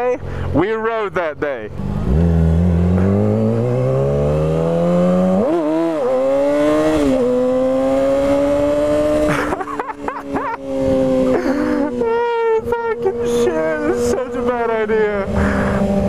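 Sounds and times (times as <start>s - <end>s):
motorcycle engine accelerating: 1.7s - 16.0s.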